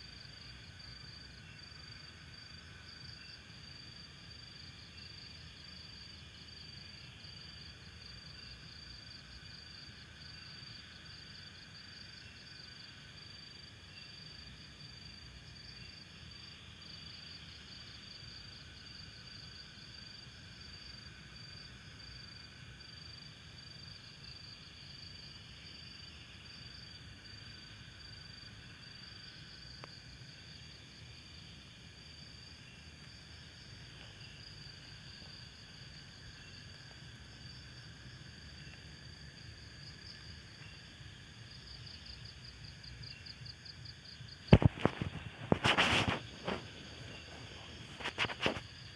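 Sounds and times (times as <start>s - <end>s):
insects chirping: 0.0s - 48.9s.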